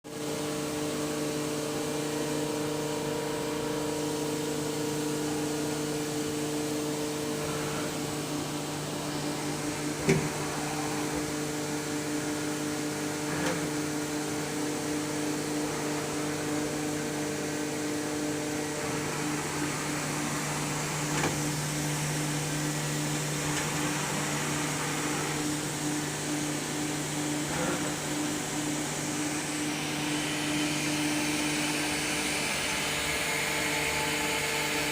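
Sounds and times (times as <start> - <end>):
machining center whirring: 0.1 - 34.9.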